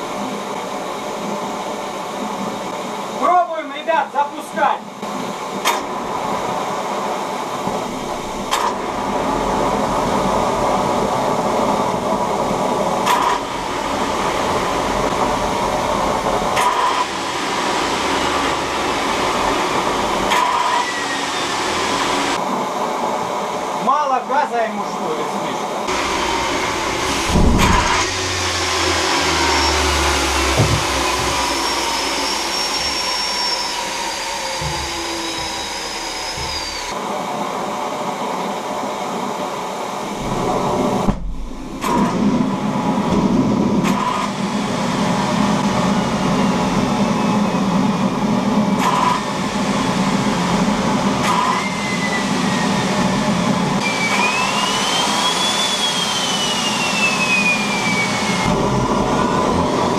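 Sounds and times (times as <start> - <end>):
turbine rushing whir: 0.0 - 59.9
turbine whine falling in pitch: 0.0 - 59.9
rising whine: 5.1 - 23.7, 25.8 - 59.9.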